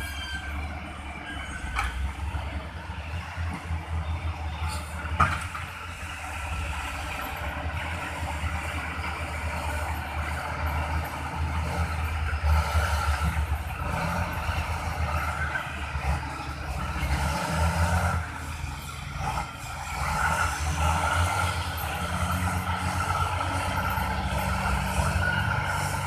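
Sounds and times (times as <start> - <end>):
heavy diesel engines running: 0.0 - 26.0.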